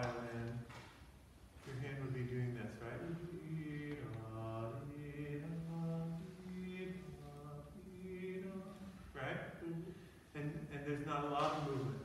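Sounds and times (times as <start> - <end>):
man singing slow melody: 1.6 - 12.0.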